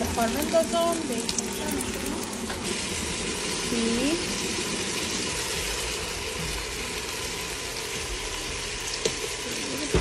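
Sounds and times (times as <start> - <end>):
meat and onions sizzling in oil: 0.0 - 10.0.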